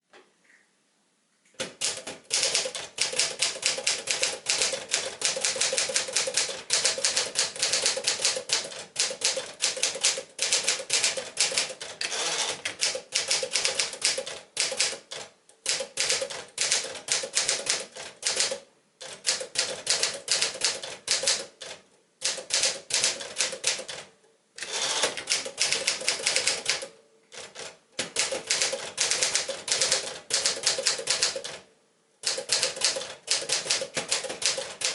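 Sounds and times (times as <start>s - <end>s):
manual typewriter typing: 1.6s - 34.9s.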